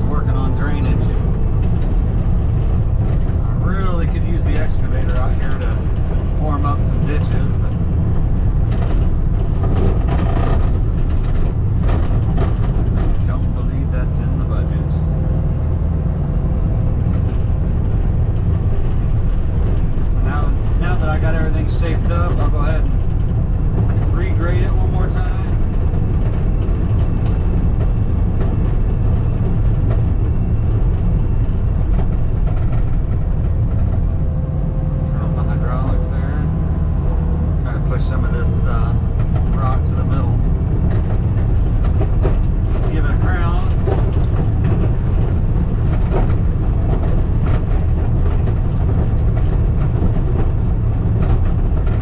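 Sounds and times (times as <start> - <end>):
skid steer engine running: 0.0 - 52.0.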